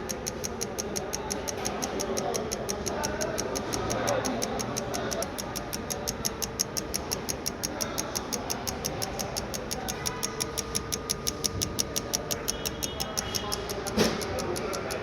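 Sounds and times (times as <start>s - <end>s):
fuel injectors clicking fast: 0.0s - 15.0s
steady machine hum: 0.0s - 15.0s.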